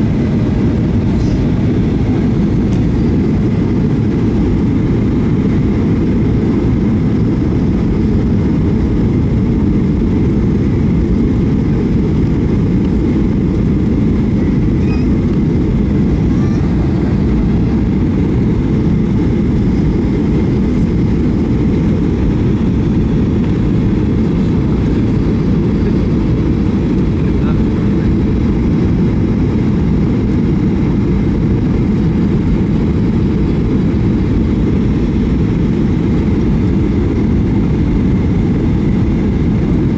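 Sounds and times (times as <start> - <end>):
airliner engine and airflow noise: 0.0 - 39.9.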